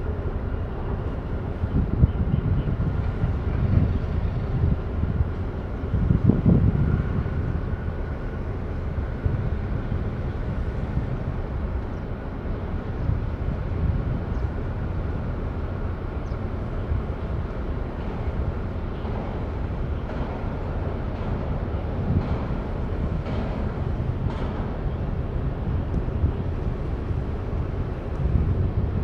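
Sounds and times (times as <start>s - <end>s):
low outdoor rumble: 0.0s - 29.0s
wind buffeting microphone: 0.0s - 29.0s.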